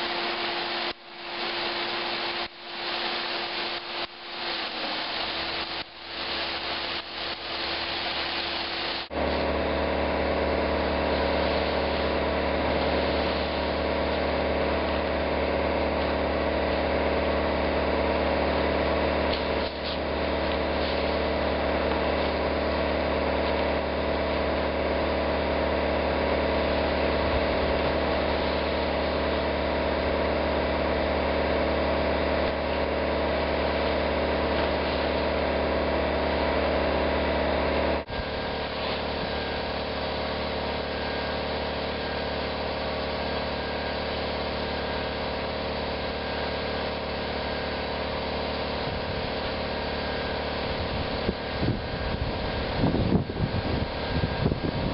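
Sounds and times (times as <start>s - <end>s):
air compressor engine drone: 0.0s - 54.9s.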